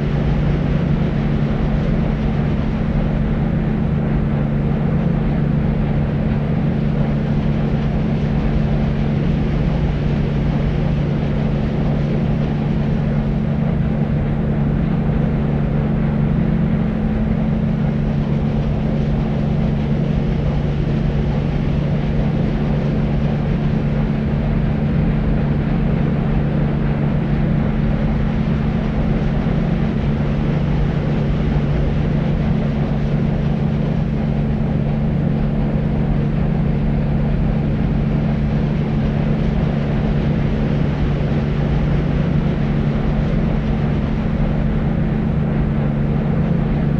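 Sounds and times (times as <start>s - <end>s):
low hum: 0.0s - 46.9s
low rumbling white noise: 0.0s - 46.9s.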